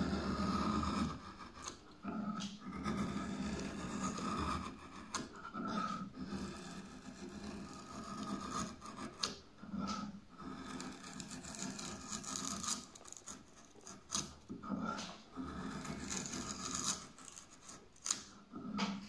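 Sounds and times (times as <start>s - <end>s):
drawknife shaving wood: 0.0s - 19.0s.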